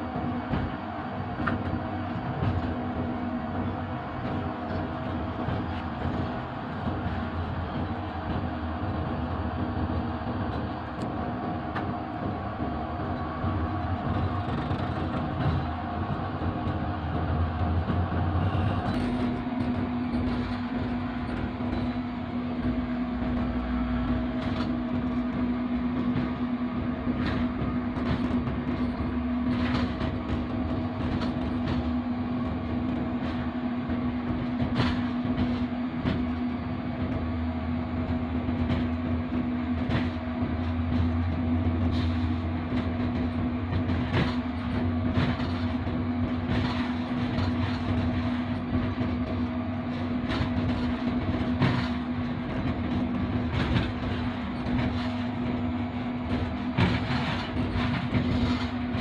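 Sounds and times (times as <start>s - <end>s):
locomotive engine drone: 0.0s - 59.0s
wheels clicking on rails: 0.0s - 59.0s.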